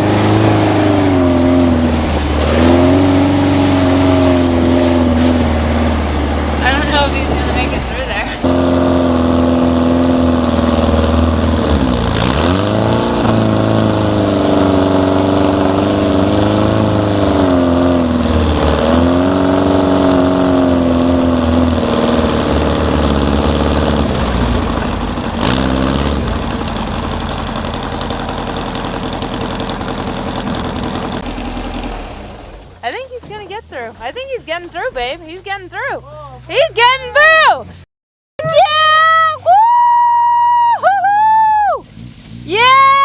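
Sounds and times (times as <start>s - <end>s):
car engine revving: 0.0s - 37.8s, 41.6s - 43.0s.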